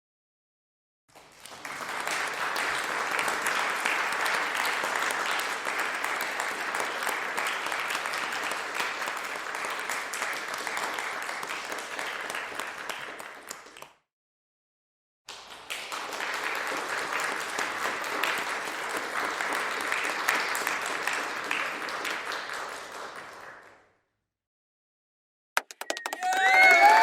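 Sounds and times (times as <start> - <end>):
crowd clapping: 1.1 - 14.0, 15.3 - 23.9, 25.6 - 27.0.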